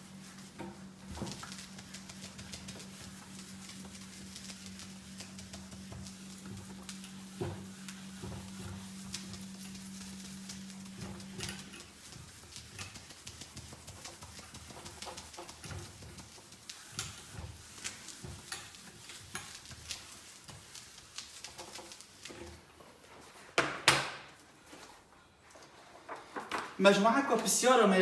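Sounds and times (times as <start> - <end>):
eraser rubbing on whiteboard: 0.0 - 22.5
small taps and scrapes: 0.5 - 23.8.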